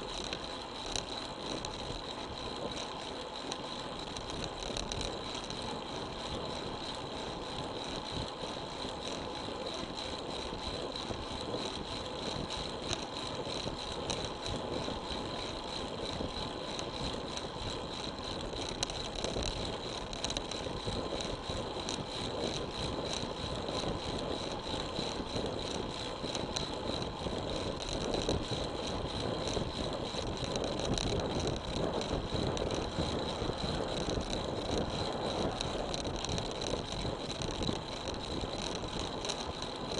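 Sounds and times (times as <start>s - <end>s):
bicycle tyres rolling: 0.0s - 39.9s.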